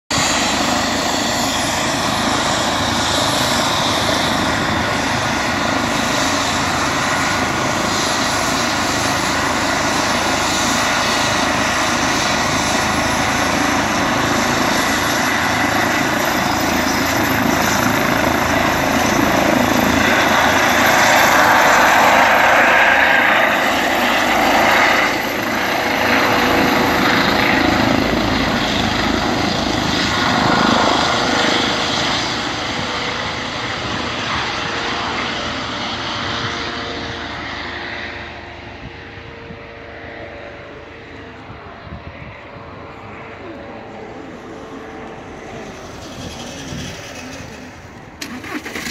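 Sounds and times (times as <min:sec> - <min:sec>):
helicopter rotor and turbine: 0:00.1 - 0:48.9
high turbine whine rising: 0:00.2 - 0:48.8.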